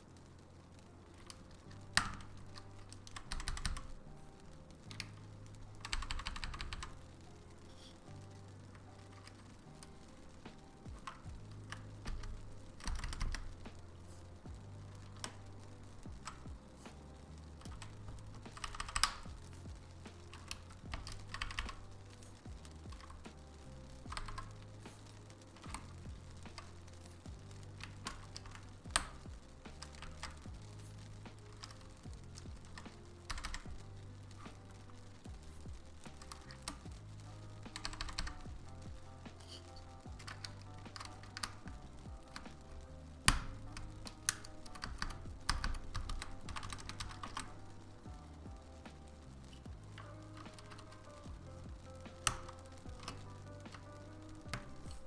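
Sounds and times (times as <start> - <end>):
soft background music: 0.0 - 55.0
mechanical keyboard keystrokes: 1.2 - 4.2, 4.9 - 8.0, 8.9 - 30.6, 31.3 - 35.5, 36.1 - 48.2, 50.0 - 55.0.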